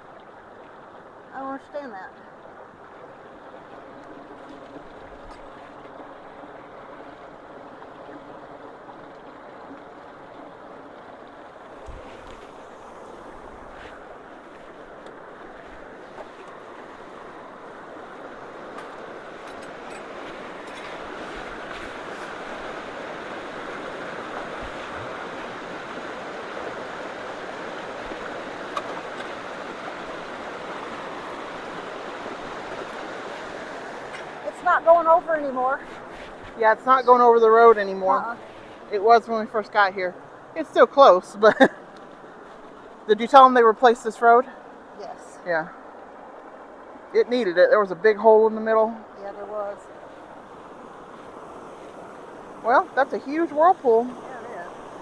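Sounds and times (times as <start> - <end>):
floodwater rushing into culverts: 0.0 - 55.0.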